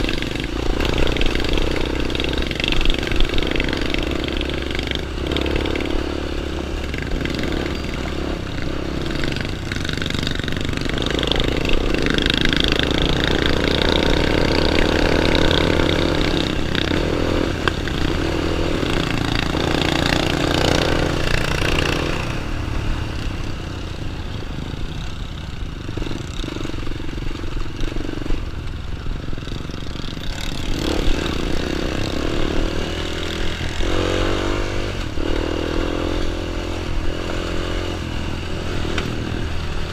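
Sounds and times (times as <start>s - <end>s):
small dirt bike engine revving: 0.0s - 23.7s, 29.4s - 39.9s.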